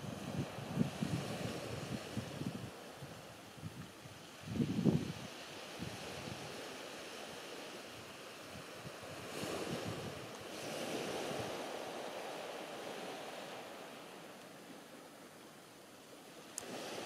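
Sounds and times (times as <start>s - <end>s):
wind buffeting microphone: 0.0s - 14.3s
sea waves washing onto shore: 0.0s - 17.0s.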